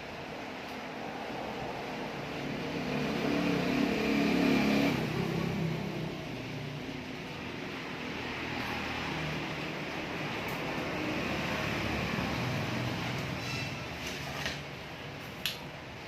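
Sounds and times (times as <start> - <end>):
vehicle engine passing by: 1.0 - 14.6.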